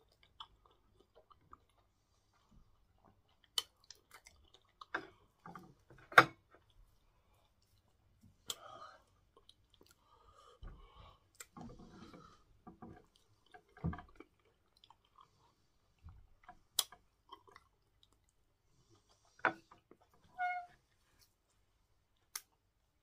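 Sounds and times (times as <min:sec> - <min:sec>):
person chewing food: 0:00.0 - 0:20.2.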